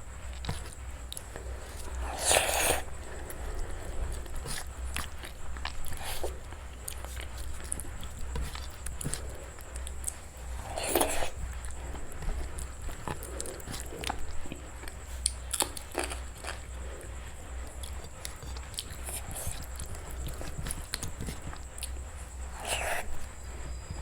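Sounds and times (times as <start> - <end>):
biting and chewing: 0.0 - 24.0
steady low hum: 0.0 - 24.0
food crunching: 0.2 - 23.8.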